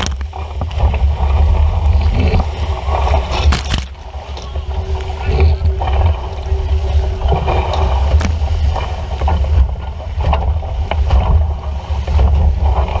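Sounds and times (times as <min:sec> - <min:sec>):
water rushing against hull: 0:00.0 - 0:13.0
wind buffeting microphone: 0:00.0 - 0:13.0.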